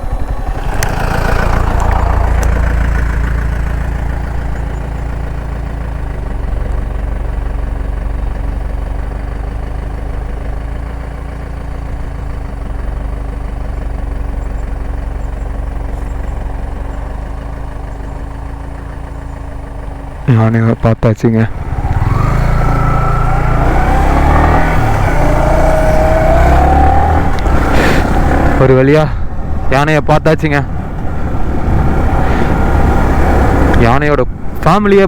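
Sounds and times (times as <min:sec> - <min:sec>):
motorcycle engine running at low revs: 0:00.0 - 0:29.7, 0:30.6 - 0:34.7.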